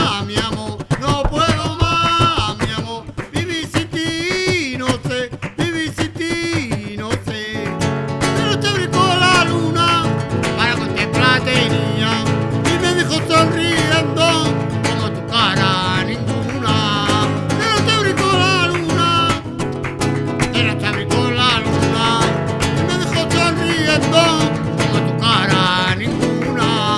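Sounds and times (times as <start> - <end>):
acoustic guitar: 0.0 - 26.9
person singing: 0.0 - 26.9.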